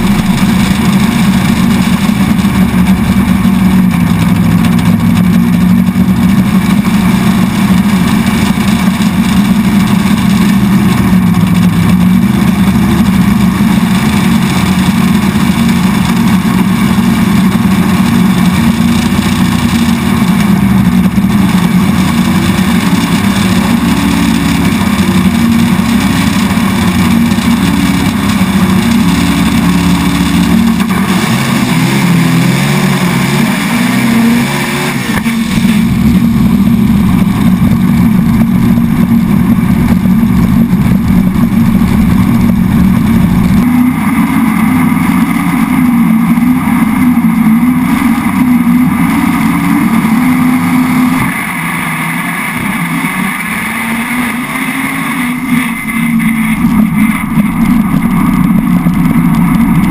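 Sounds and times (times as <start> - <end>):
loud engine running: 0.0 - 59.9.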